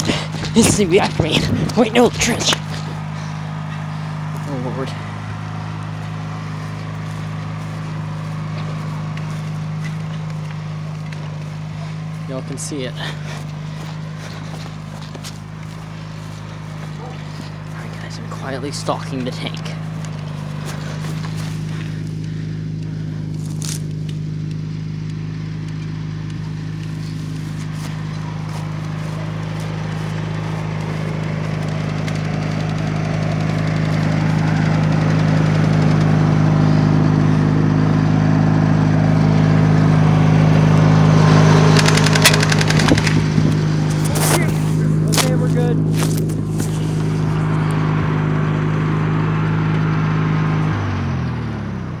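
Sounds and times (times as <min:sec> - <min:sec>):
footsteps through grass: 0:00.0 - 0:48.9
vehicle engine idling: 0:00.0 - 0:52.0.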